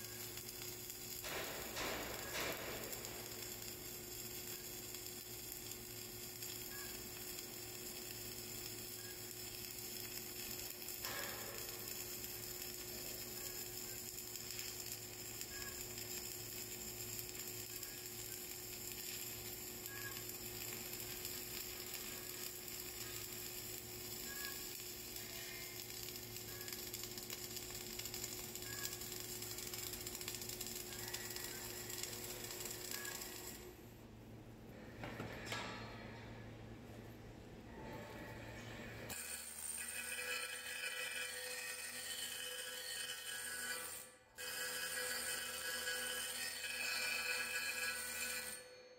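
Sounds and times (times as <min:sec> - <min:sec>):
welding arc crackling with spatter: 0:00.0 - 0:33.8, 0:39.1 - 0:48.6.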